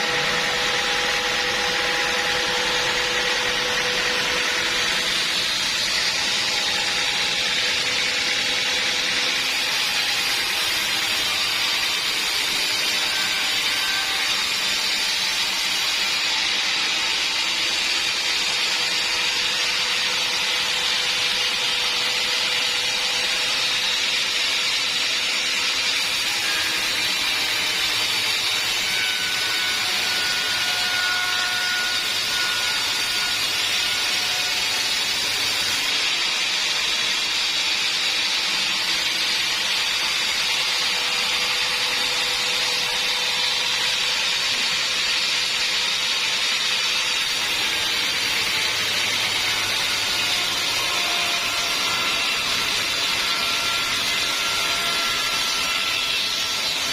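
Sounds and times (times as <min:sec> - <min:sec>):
band saw cutting a log: 0:00.0 - 0:56.9.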